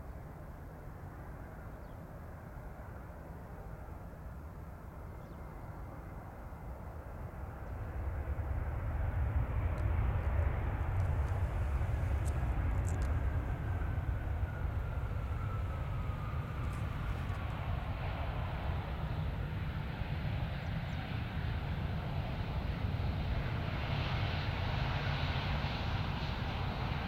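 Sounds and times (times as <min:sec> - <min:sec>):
airliner engines rumbling: 0:00.1 - 0:27.0.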